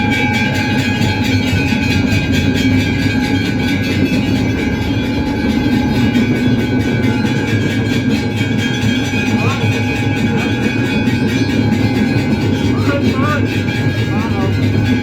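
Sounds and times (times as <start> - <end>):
bells and percussion clanging: 0.0 - 15.0
ringing bell tone: 0.0 - 15.0.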